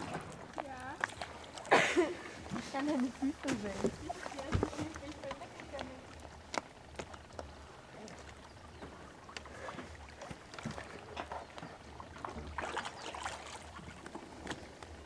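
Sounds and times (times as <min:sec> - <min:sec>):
water splashing and lapping: 0:00.0 - 0:15.0.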